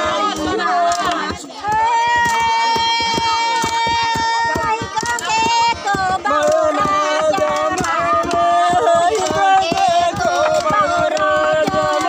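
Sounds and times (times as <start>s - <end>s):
voices singing a chant: 0.0s - 12.0s
wooden pestles knocking a mortar: 0.0s - 12.0s.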